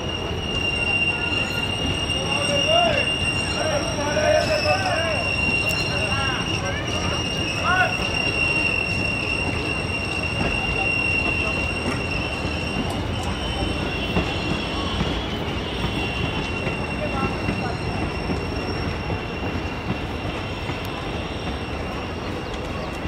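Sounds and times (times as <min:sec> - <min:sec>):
train rumbling on rails: 0:00.0 - 0:23.0
train wheels squealing: 0:00.0 - 0:23.0.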